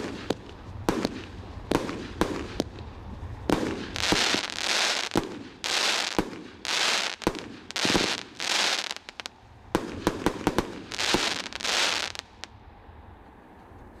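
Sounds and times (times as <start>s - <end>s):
fireworks popping and crackling: 0.0s - 12.5s.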